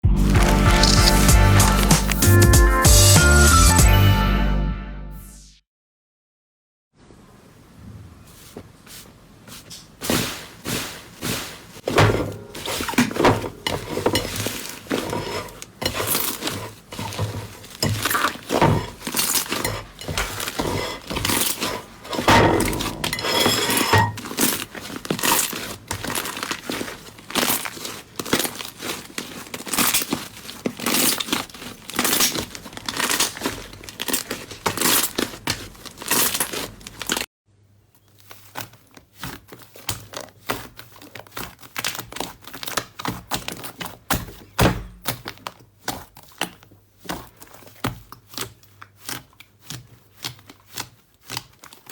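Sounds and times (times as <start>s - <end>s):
slime squelches: 0.1s - 2.4s, 7.8s - 37.3s, 37.9s - 51.9s.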